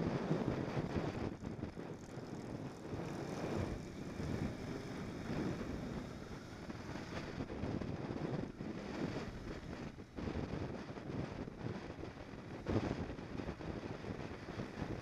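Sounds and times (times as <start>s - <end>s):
motorcycle engine: 0.0s - 15.0s
wind buffeting microphone: 0.0s - 15.0s.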